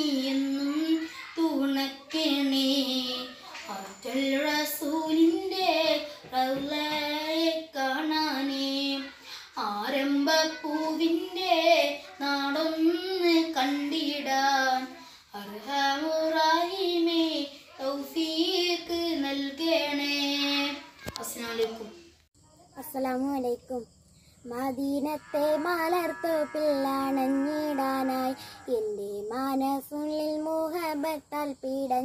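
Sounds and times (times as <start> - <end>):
boy singing: 0.0 - 22.1, 22.7 - 32.0.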